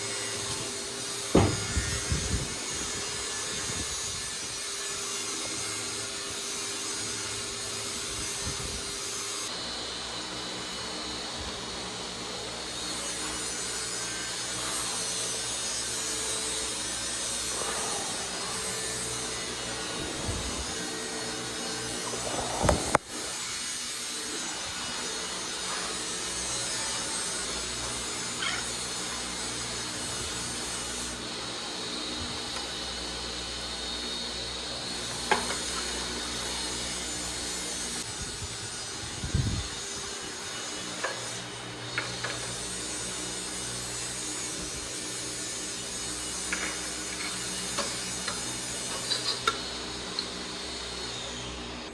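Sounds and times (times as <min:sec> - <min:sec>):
steady workshop noise: 0:00.0 - 0:51.9.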